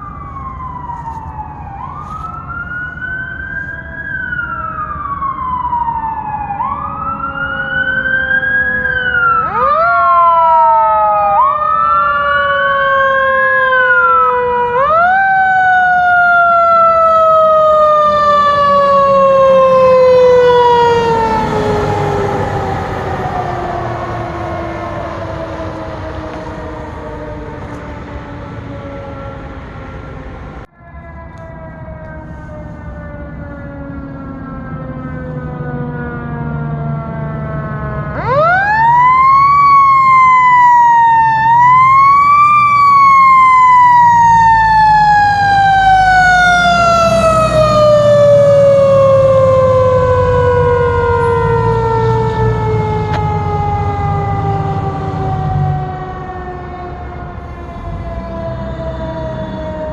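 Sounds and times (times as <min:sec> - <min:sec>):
mechanical siren wailing: 0:00.0 - 0:59.9
truck engine rumble: 0:00.0 - 0:59.9.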